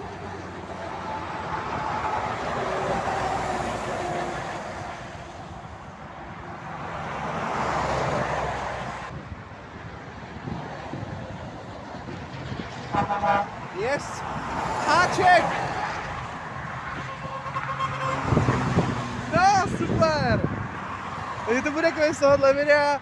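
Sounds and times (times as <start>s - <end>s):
vehicles passing on motorway: 0.0s - 23.0s.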